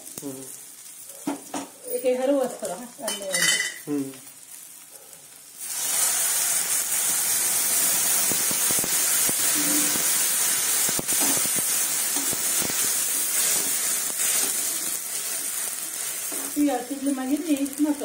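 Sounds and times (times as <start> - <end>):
liquid sizzling in hot pan: 0.0 - 18.0.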